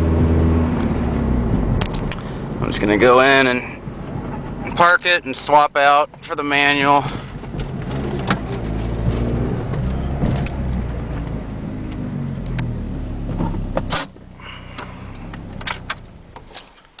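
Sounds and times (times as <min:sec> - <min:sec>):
car engine running: 0:00.0 - 0:16.8.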